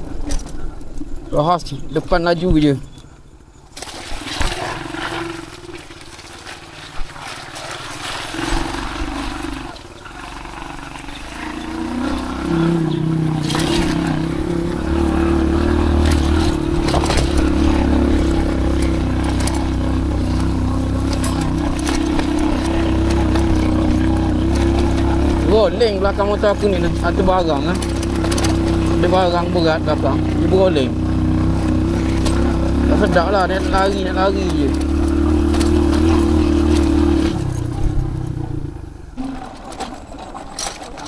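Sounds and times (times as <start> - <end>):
motorcycle engine running: 4.4 - 41.0.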